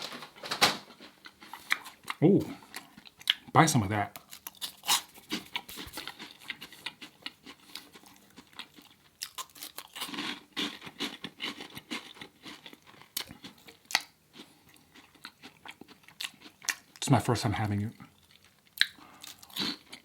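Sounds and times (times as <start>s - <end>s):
mouth chewing crunchy chips: 0.9s - 20.0s.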